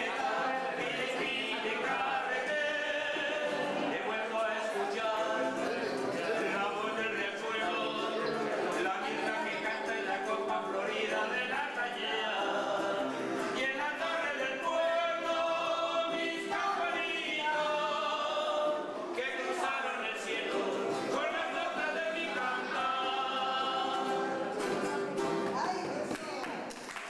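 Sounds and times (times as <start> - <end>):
choir singing long notes: 0.0 - 24.6.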